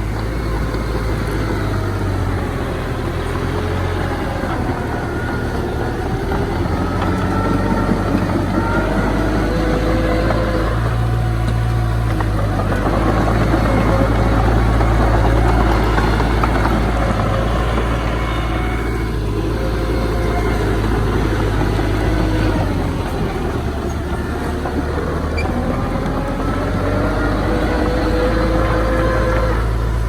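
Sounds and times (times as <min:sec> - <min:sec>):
diesel machinery engine hum: 0:00.0 - 0:30.0.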